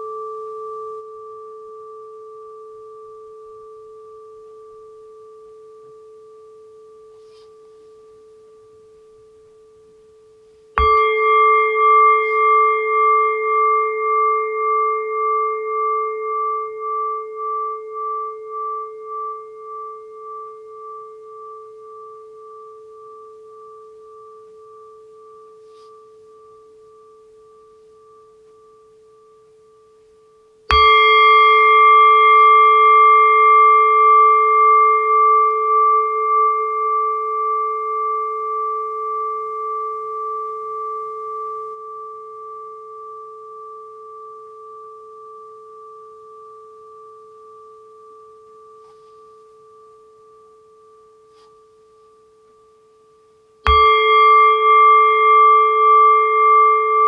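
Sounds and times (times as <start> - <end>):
singing bowl ringing: 0.0 - 57.0.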